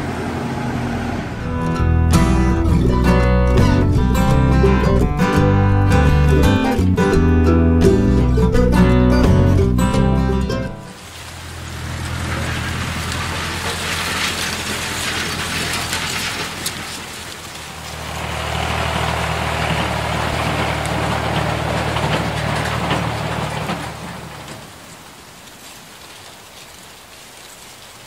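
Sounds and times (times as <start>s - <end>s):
telehandler engine running: 0.0s - 25.2s.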